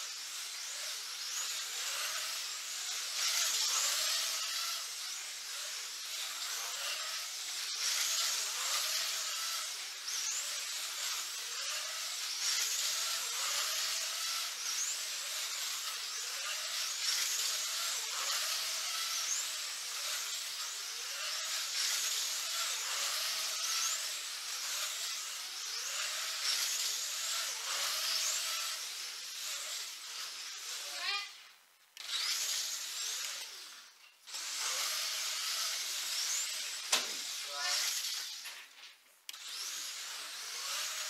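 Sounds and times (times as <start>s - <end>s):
slot car motors whining: 0.0s - 41.0s.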